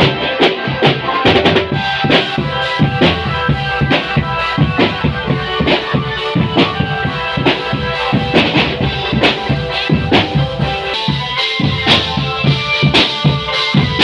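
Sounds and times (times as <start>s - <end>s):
held melody: 0.0s - 14.0s
marching drums beating: 0.0s - 14.0s.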